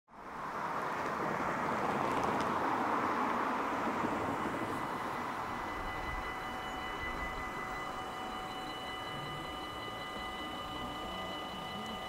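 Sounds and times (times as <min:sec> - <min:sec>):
cars passing: 0:00.1 - 0:12.0.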